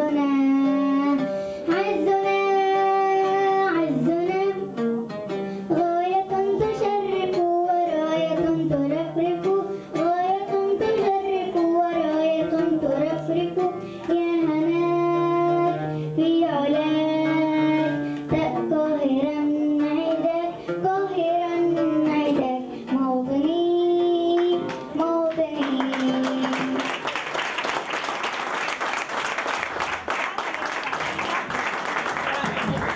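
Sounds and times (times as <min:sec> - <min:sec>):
girl singing into a microphone: 0:00.0 - 0:26.8
plucked string instrument: 0:00.0 - 0:28.3, 0:29.8 - 0:32.9.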